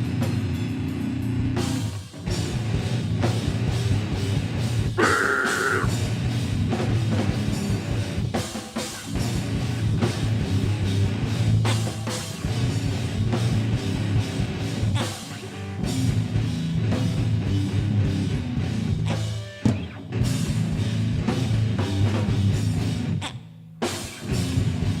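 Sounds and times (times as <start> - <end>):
distorted electric guitars: 0.0 - 25.0
drum kit: 0.0 - 25.0.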